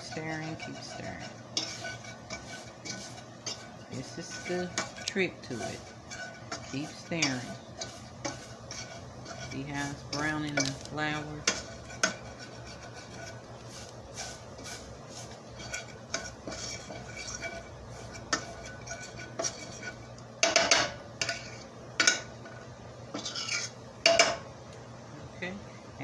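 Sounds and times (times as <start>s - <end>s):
metal fork scraping a skillet: 0.0s - 24.4s.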